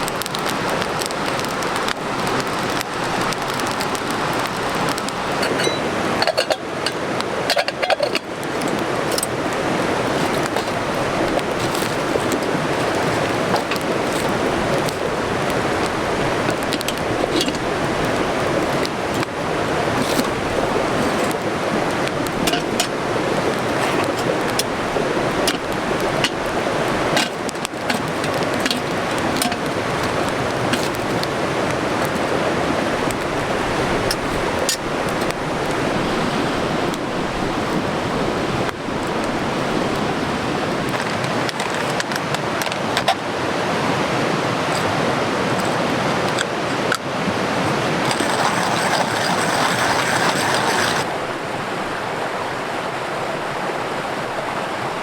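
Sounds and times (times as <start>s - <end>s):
wood fire hissing and crackling: 0.0s - 43.9s, 44.6s - 51.1s.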